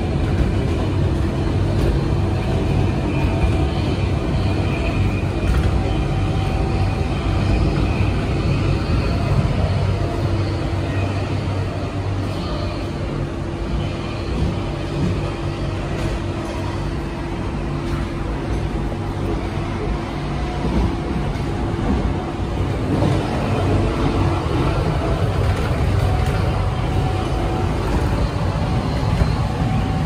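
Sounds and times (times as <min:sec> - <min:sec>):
electric train hum: 0:00.0 - 0:30.0
train running rumble: 0:00.0 - 0:30.0.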